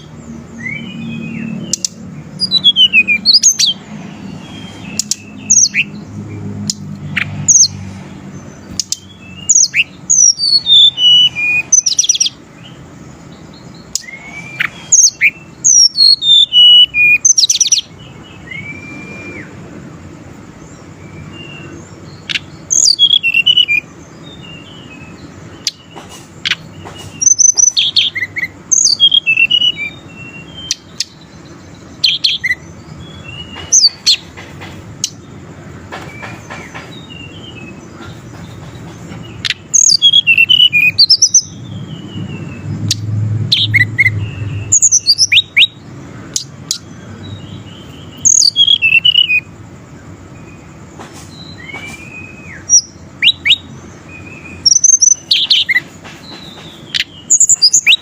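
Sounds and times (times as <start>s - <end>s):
bird singing whistled notes: 0.0s - 20.0s, 20.6s - 34.4s, 35.0s - 58.0s.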